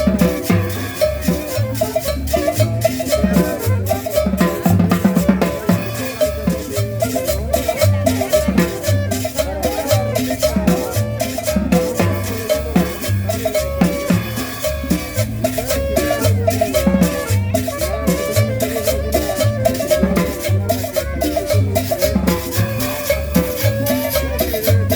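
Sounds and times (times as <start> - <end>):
latin dance music: 0.0 - 24.9
maracas shaking: 0.0 - 24.9.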